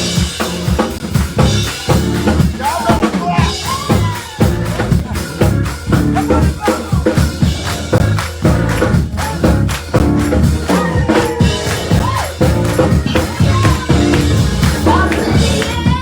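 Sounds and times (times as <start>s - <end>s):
church praise music: 0.0s - 16.0s.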